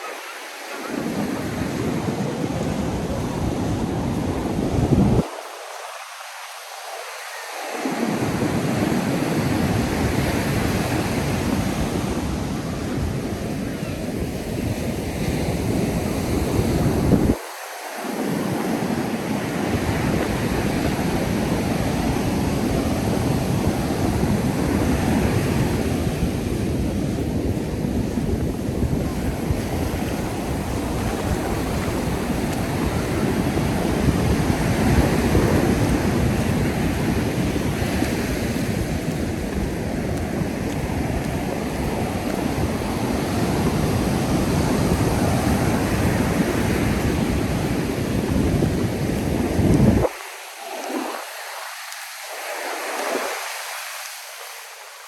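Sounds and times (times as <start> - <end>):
wind buffeting microphone: 0.0 - 5.5, 7.8 - 17.5, 18.1 - 52.0
waves breaking on beach: 0.0 - 55.0.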